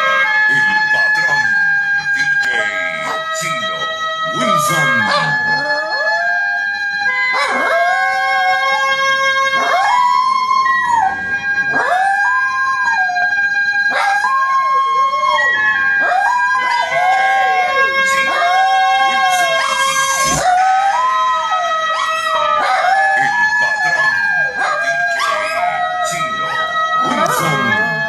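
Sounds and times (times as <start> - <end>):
dog howling: 0.0 - 28.0
music with held notes: 0.0 - 28.0.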